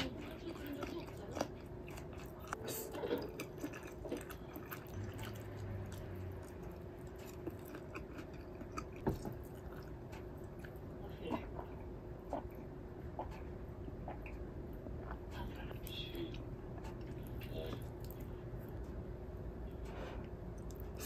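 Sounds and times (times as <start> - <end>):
person chewing noodles: 0.0 - 15.9, 16.7 - 19.0, 20.2 - 21.0
faint steady hum: 0.0 - 21.0.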